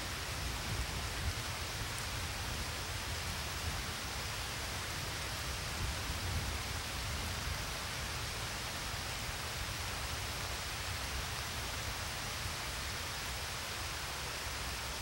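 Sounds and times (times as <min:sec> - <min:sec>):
steady rain-like hiss: 0:00.0 - 0:15.0.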